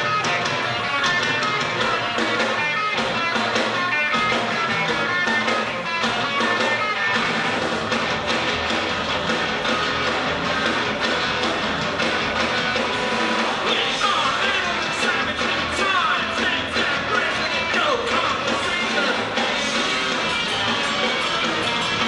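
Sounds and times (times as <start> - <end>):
electric guitar: 0.0 - 22.0
noise-rock band playing live: 0.0 - 22.0.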